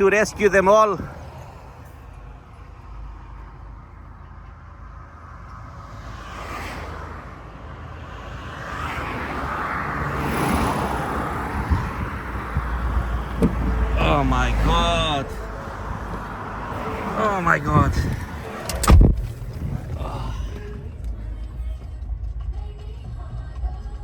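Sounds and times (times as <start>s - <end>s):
car road rumble: 0.0s - 24.0s.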